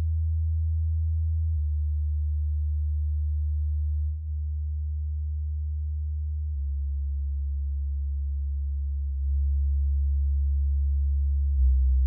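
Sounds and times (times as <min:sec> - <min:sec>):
low sine-wave bass tones: 0:00.0 - 0:12.0.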